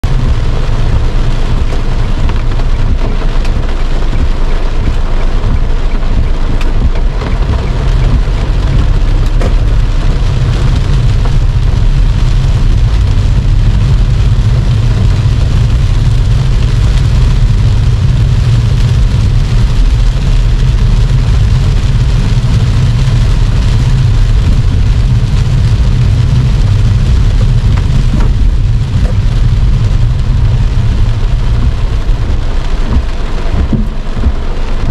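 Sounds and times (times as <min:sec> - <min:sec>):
heavy rain on car windshield: 0:00.0 - 0:34.9
low rumble of moving car: 0:00.0 - 0:34.9.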